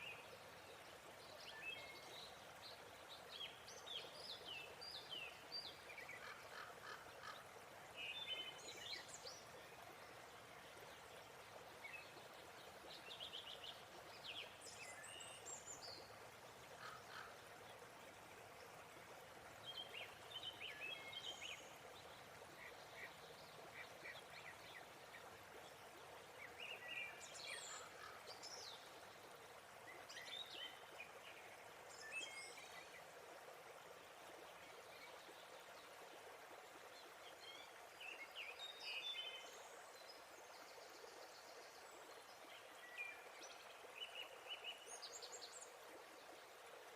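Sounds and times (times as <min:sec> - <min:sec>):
faint waterfall rushing: 0:00.0 - 0:46.9.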